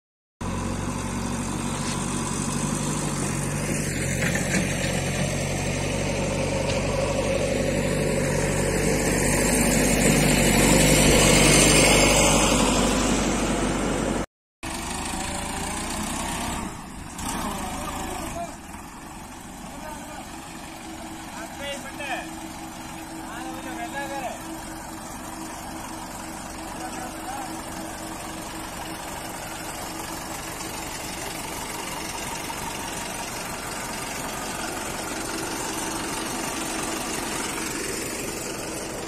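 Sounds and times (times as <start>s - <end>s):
tractor diesel engine running: 0.4s - 39.0s.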